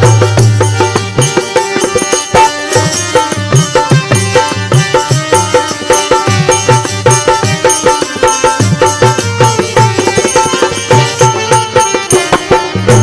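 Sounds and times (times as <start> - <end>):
fast hand-drum rhythm: 0.0 - 13.0
harmonium melody: 0.0 - 13.0.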